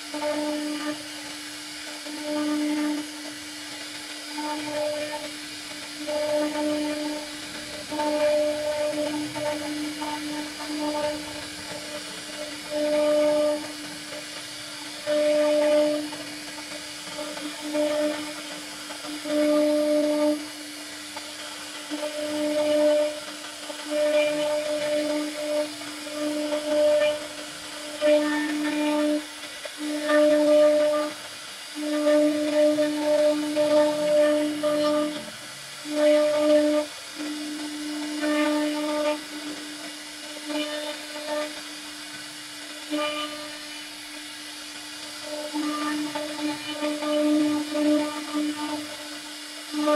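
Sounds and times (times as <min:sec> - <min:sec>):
router spindle whining: 0:00.0 - 0:49.9.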